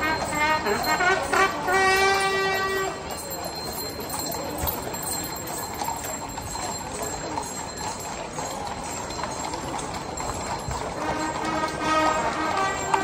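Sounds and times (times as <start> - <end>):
crowd chatter: 0.0 - 13.0
horse hooves clopping on pavement: 0.0 - 13.0.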